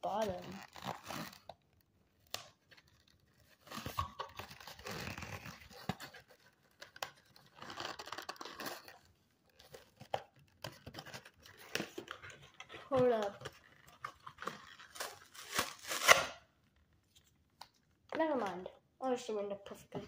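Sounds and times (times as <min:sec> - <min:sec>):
packaging crinkling and tearing: 0:00.0 - 0:16.5.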